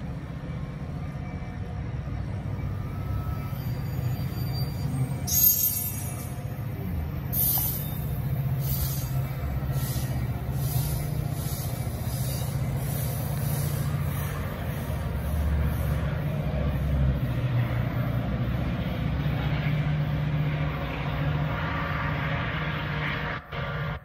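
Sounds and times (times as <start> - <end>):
diesel locomotive droning: 0.0 - 24.0
rolling train cars rumbling: 0.0 - 24.0.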